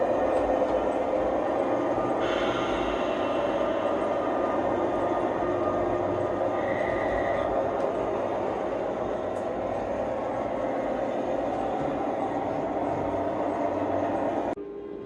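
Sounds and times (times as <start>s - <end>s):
model train rumbling on rails: 0.0s - 14.6s.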